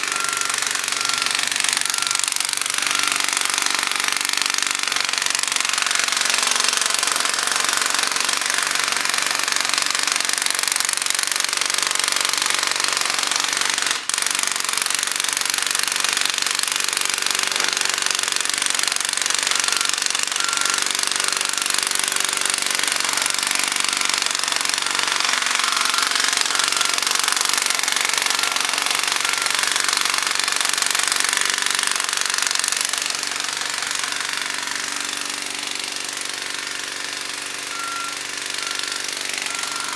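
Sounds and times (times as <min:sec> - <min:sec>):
jackhammer pounding: 0:00.0 - 0:39.9.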